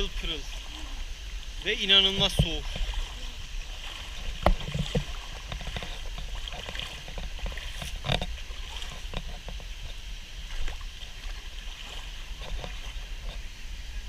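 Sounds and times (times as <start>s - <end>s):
sharp splashes: 0.0s - 9.1s, 10.4s - 13.1s
rush of water: 0.0s - 14.0s
water sloshing and splashing: 0.0s - 14.0s.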